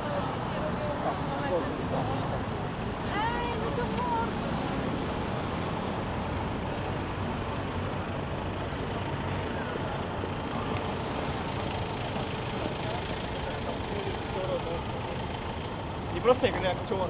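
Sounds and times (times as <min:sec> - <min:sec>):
vehicle engines running and idling: 0:00.0 - 0:17.0.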